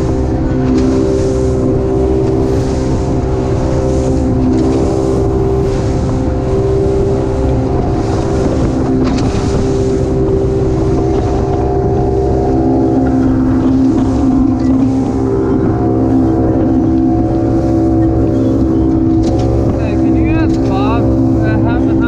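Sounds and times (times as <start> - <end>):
boat engine running: 0.0 - 22.0
hiss of wind and water: 0.0 - 22.0.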